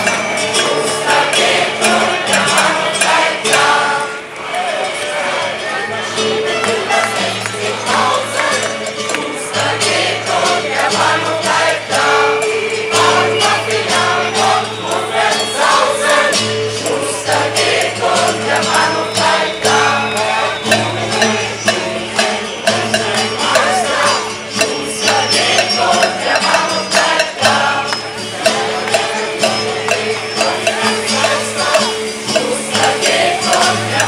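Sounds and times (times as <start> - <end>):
choir singing in unison: 0.0 - 34.0
jingling percussion beat: 0.0 - 34.0.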